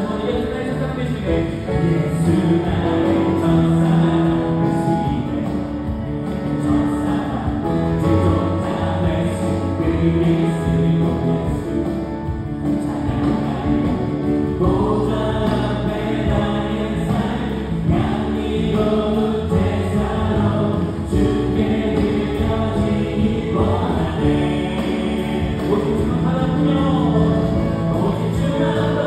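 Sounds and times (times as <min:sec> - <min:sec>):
group of voices singing: 0:00.0 - 0:29.0
worship band playing: 0:00.0 - 0:29.0.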